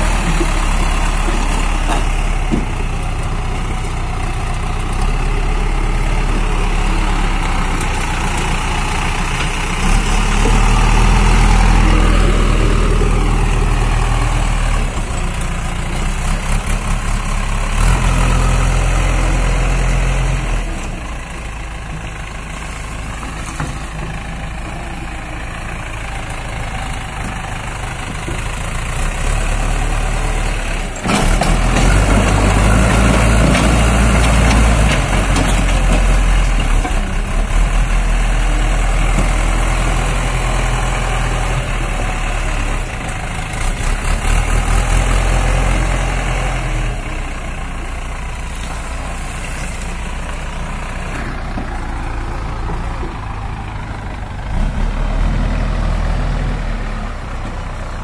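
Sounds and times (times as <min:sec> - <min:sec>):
backhoe diesel engine revving: 0:00.0 - 0:58.0.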